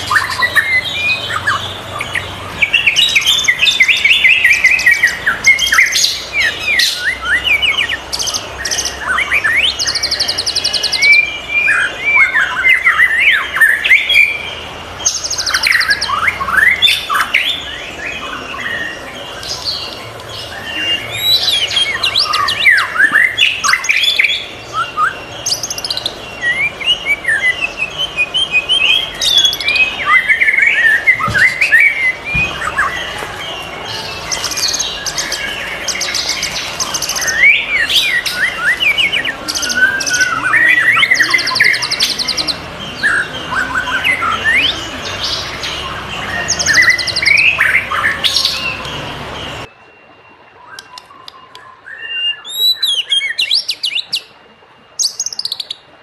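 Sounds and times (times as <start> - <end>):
bird singing whistled phrases: 0.0 - 49.0, 49.6 - 55.9.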